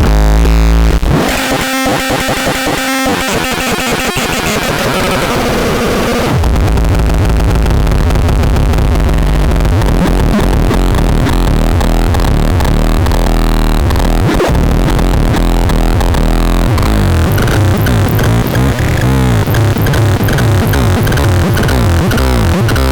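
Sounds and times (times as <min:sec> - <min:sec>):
loud electronic music: 0:00.0 - 0:06.4, 0:09.2 - 0:22.9
heavy bass line: 0:00.0 - 0:22.9.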